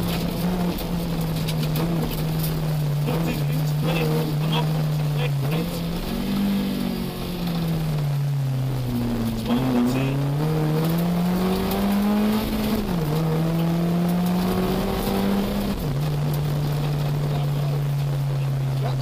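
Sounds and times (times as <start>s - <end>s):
car engine revving through gears: 0.0s - 19.0s.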